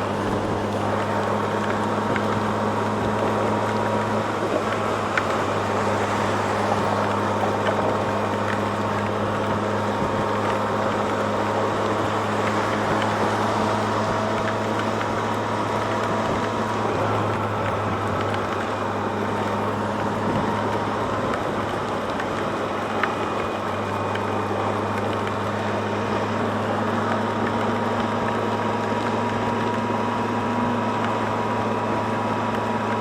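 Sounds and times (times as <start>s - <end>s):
motorcycle engine droning: 0.0s - 33.0s
wet road noise: 0.0s - 33.0s.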